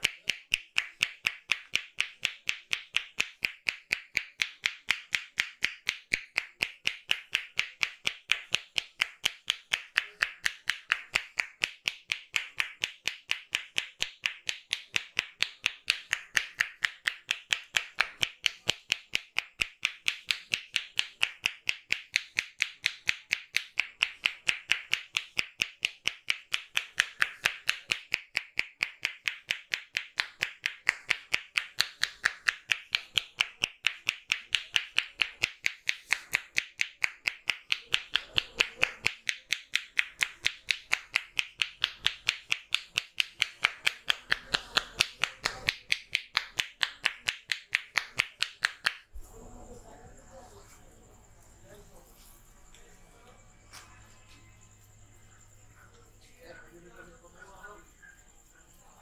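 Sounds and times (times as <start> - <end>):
rhythmic hand claps and slaps: 0.0 - 49.2.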